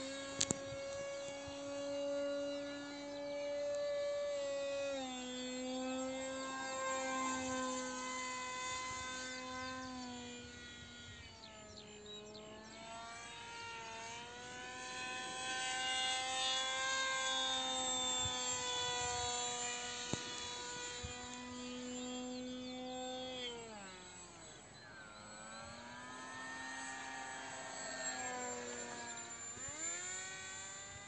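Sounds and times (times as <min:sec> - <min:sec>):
model jet motor whine: 0:00.0 - 0:31.0.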